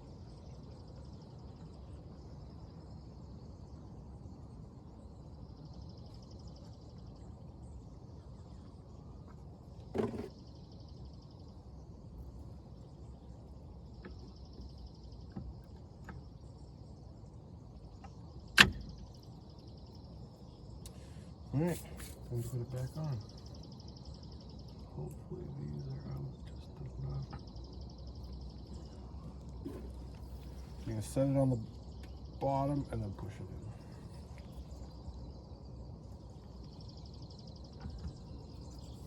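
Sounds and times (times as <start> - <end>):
insects trilling: 0.0 - 39.0
steady low hum: 0.0 - 39.0.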